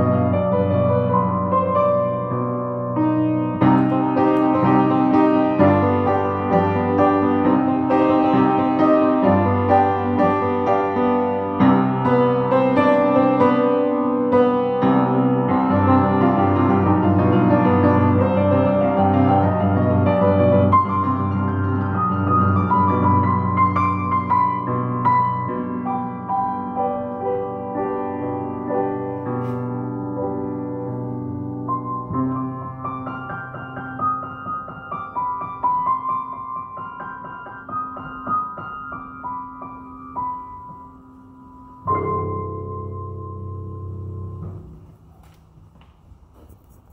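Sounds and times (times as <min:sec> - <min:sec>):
solo piano playing: 0:00.0 - 0:45.2.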